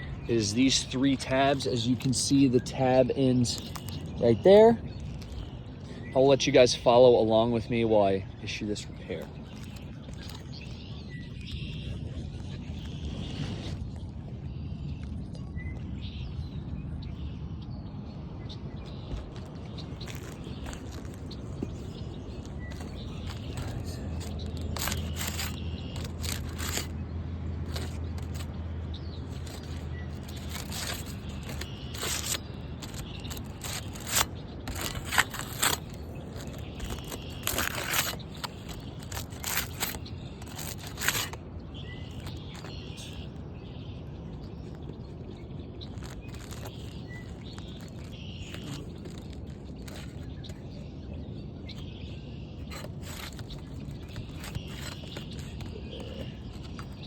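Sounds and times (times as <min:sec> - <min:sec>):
bird chirping: 0:00.0 - 0:57.0
shingles scraping and cracking: 0:00.3 - 0:07.4, 0:08.5 - 0:12.0, 0:18.8 - 0:43.4, 0:44.5 - 0:50.9, 0:52.6 - 0:57.0.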